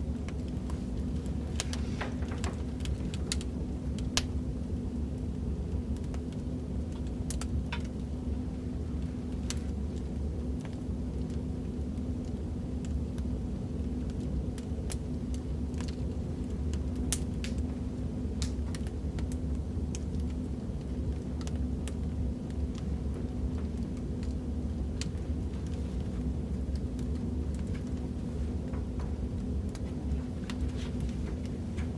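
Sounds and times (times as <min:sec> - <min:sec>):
fire crackling and popping: 0:00.0 - 0:31.9
fire rumbling: 0:00.0 - 0:31.9.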